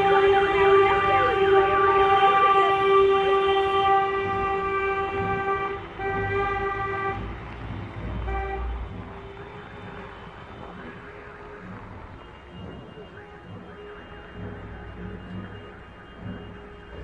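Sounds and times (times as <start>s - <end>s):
car horn honking: 0.0s - 17.0s.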